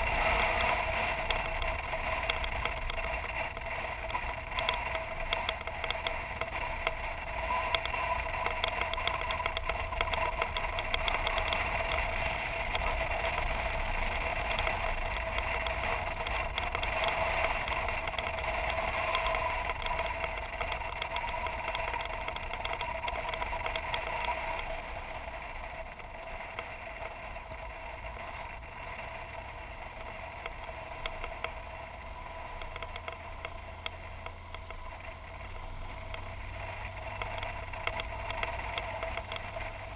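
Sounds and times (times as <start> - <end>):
motorcycle engine running: 0.0 - 39.9
small ticks: 0.1 - 39.9.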